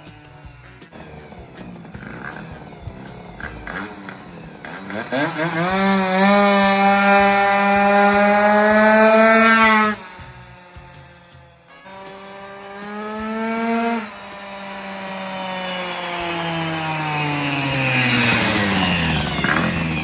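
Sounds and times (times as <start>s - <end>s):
moped engine revving: 0.0s - 20.0s.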